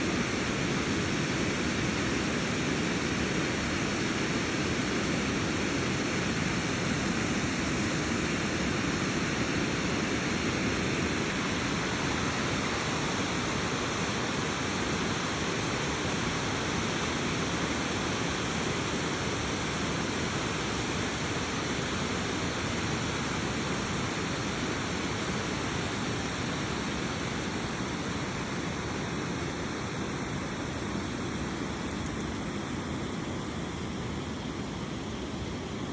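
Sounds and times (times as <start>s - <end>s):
rushing water: 0.0s - 35.9s.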